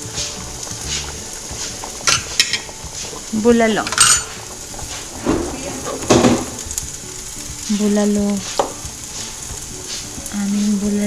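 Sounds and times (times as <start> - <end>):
food sizzling in a frying pan: 0.0 - 11.0
utensil clattering against pan: 0.0 - 11.0
utensil stirring and scraping: 0.0 - 11.0.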